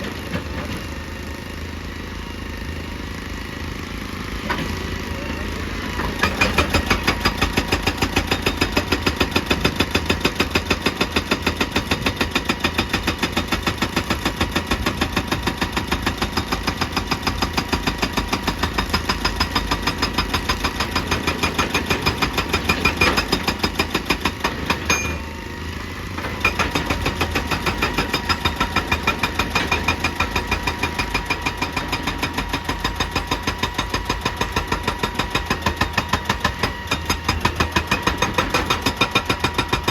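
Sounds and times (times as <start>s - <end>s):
hydraulic rock breaker hammering: 5.8s - 25.5s, 26.1s - 39.9s.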